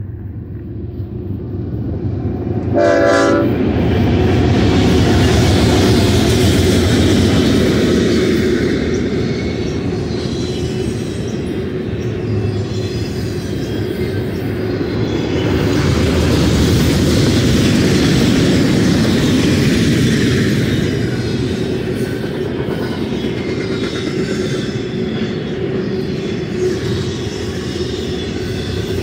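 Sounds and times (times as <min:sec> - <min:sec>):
diesel locomotive passing: 0:00.0 - 0:29.0
train wheels rumbling and clattering: 0:00.0 - 0:29.0.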